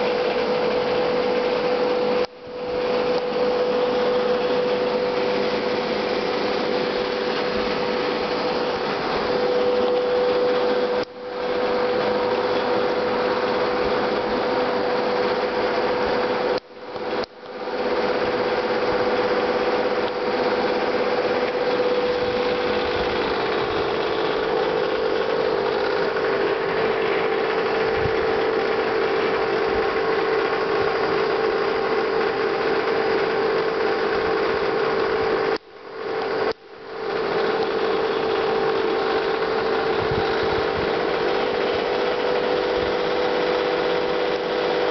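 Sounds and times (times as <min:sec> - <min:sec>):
aquarium pump humming: 0:00.0 - 0:44.9.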